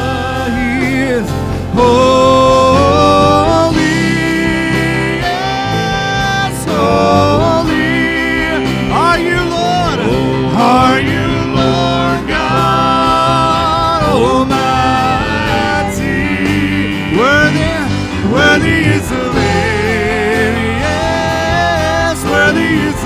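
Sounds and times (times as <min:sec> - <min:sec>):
acoustic guitar: 0:00.0 - 0:23.0
keyboard sustained low notes: 0:00.0 - 0:23.0.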